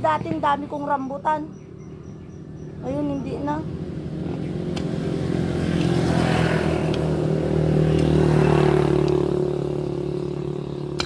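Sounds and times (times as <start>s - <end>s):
vehicle driving past: 1.6s - 11.0s.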